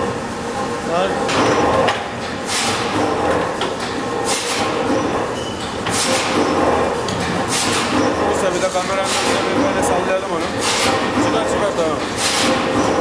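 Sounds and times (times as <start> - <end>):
ring twisting machine running: 0.0 - 13.0.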